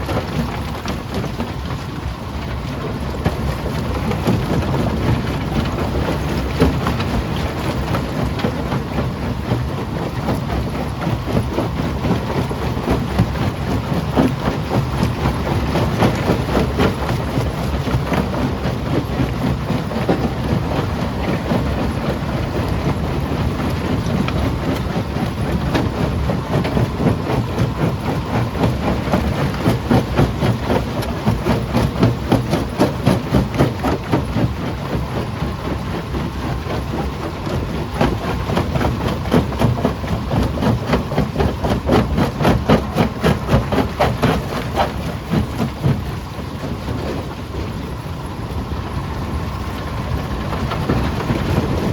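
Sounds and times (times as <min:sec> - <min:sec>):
low machine rumble: 0:00.0 - 0:51.9.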